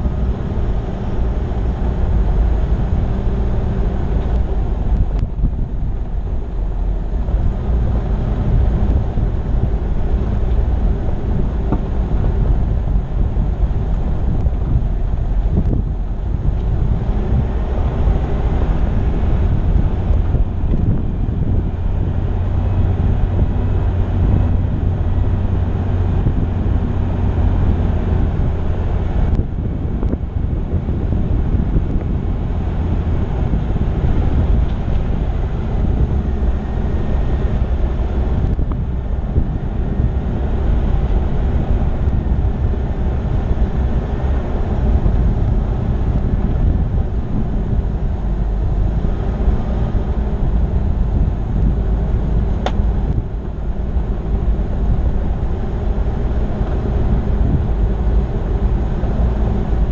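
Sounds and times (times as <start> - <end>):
engine and tyres on gravel: 0.0 - 59.9
wind buffeting microphone: 0.0 - 59.9.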